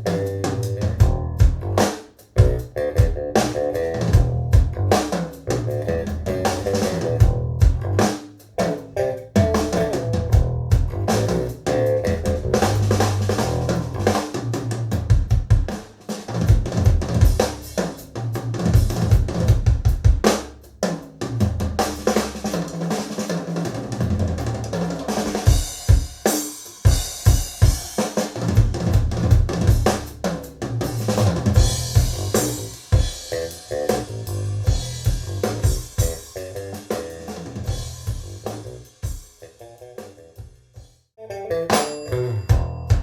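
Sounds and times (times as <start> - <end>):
music with drum kit and bass: 0.0 - 43.0.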